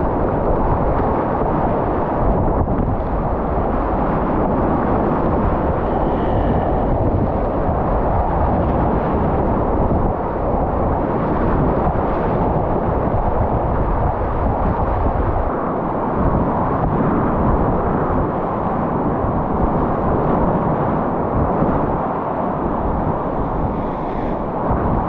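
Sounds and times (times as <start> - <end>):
rush of churning water: 0.0 - 25.0.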